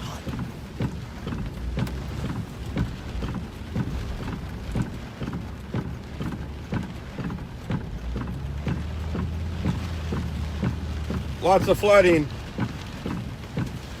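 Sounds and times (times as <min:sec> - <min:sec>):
heavy rain on truck: 0:00.0 - 0:14.0
low road rumble: 0:00.0 - 0:14.0
windshield wipers beating: 0:00.0 - 0:14.0.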